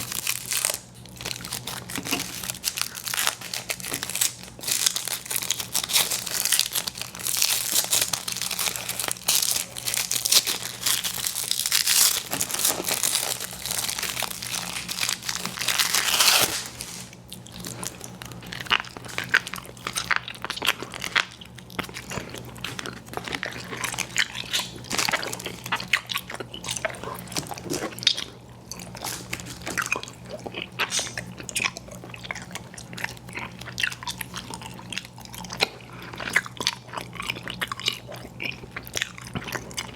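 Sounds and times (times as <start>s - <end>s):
candy packaging crinkling: 0.0s - 39.9s
chewing candy: 0.0s - 39.9s.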